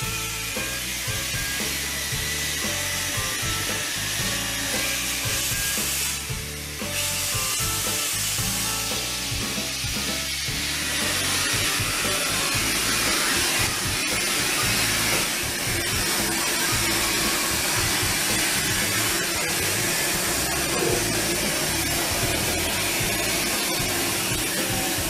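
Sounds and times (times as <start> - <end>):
background music: 0.0 - 25.0
steam hissing: 0.0 - 25.0.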